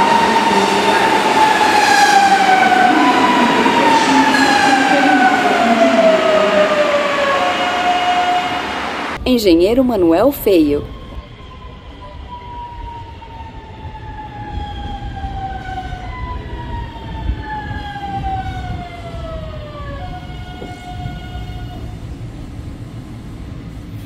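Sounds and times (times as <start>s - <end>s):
electric train traction whine: 0.0s - 9.2s, 10.2s - 24.0s
wheels rumbling on rails: 0.0s - 9.2s, 10.2s - 24.0s.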